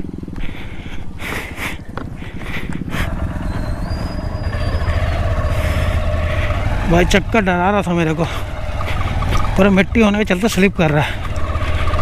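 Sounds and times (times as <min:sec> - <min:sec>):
motorcycle engine thrumming: 0:01.8 - 0:12.0.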